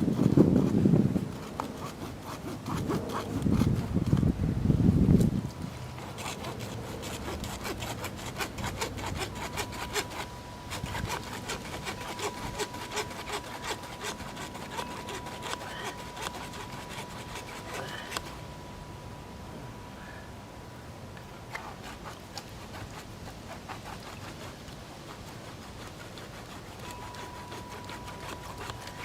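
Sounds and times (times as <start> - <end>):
handsaw cutting plastic pipe: 0.0 - 4.3, 5.9 - 18.4, 21.5 - 29.0.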